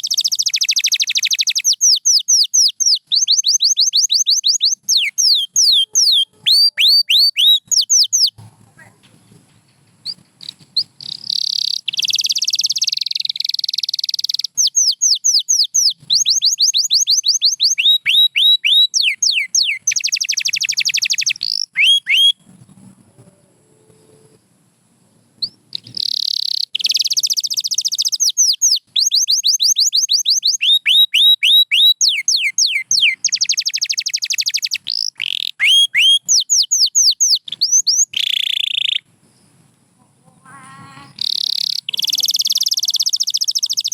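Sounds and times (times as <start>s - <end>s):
canary singing: 0.0s - 9.0s, 10.0s - 22.6s, 25.4s - 39.1s, 40.3s - 43.9s.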